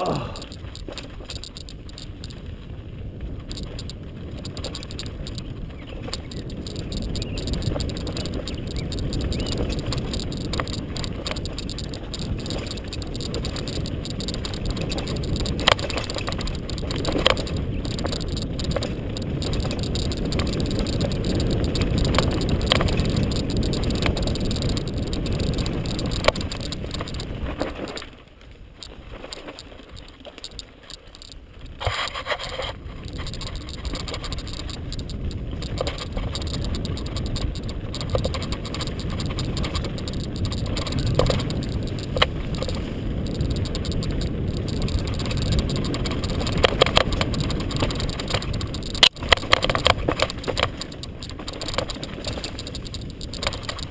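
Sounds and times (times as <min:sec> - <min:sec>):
wind rushing over microphone: 0:00.0 - 0:28.0, 0:31.2 - 0:53.9
bike rattling: 0:00.0 - 0:53.9
tyres on dirt: 0:00.0 - 0:53.9.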